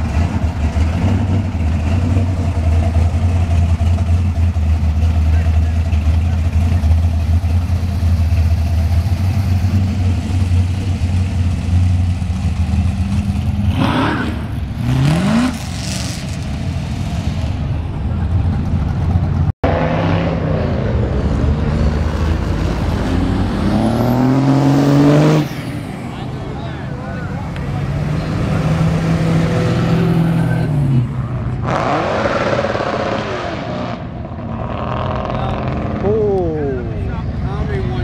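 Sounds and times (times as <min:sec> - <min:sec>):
deep engine rumble: 0:00.0 - 0:32.0
car engines revving: 0:00.0 - 0:38.0.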